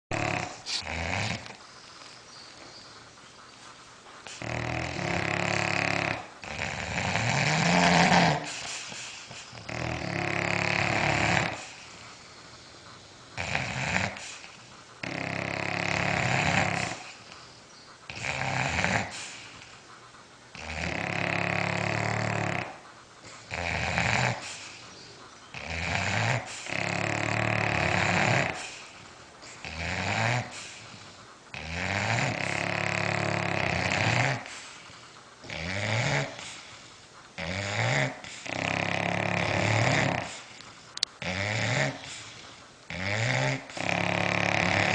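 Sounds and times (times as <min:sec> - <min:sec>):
dogs snoring: 0:00.1 - 0:44.9.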